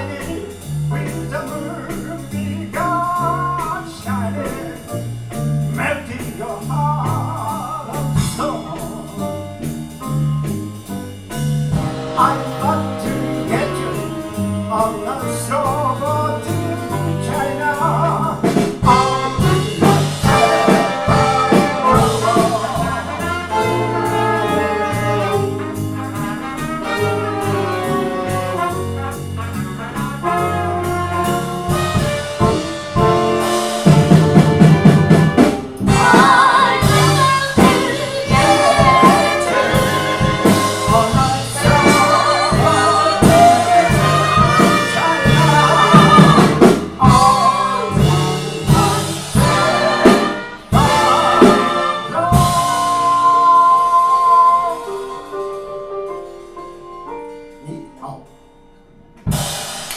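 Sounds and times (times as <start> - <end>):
live jazz band playing: 0.0 - 59.9.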